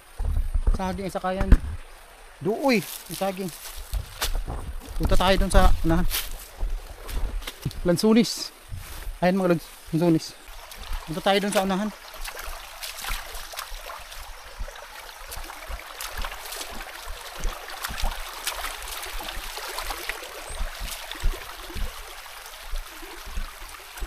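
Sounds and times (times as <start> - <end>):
footsteps on dirt path: 2.8 - 24.0.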